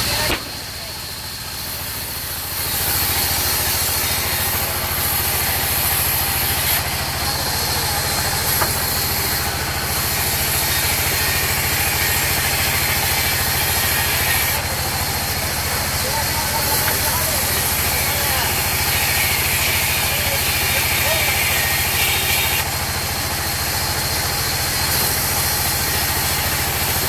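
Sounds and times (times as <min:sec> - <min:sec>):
band saw cutting through log: 0:00.0 - 0:27.0.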